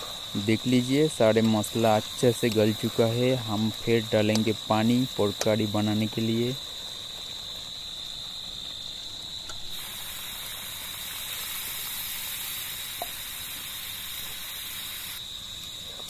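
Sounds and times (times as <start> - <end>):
water hissing in hot wok: 0.0 - 16.0.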